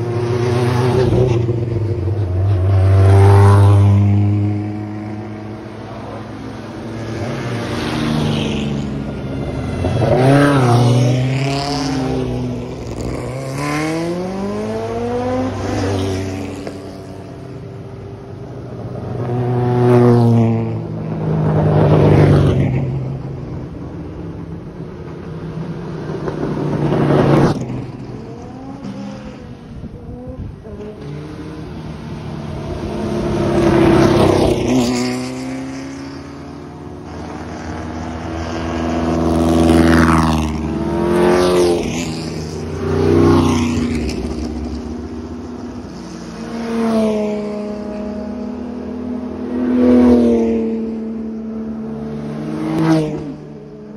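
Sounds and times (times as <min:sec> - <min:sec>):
race cars driving past: 0:00.0 - 0:53.9.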